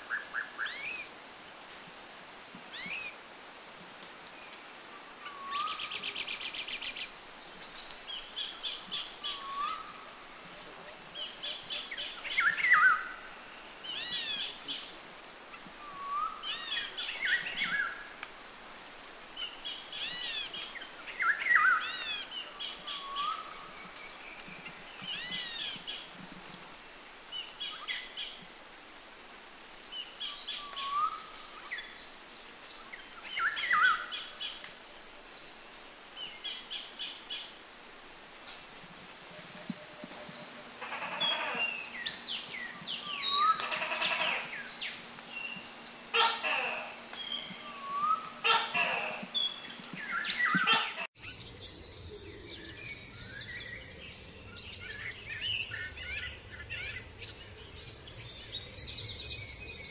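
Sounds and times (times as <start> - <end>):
songbirds singing: 0.0 - 59.9
steady high hiss: 0.0 - 59.9.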